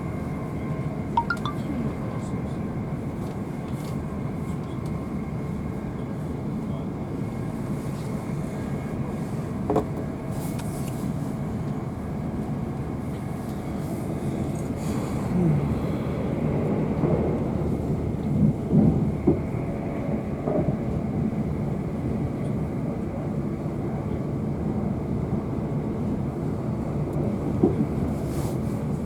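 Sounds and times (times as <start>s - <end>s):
train wheels rumbling on rail: 2.8s - 29.0s.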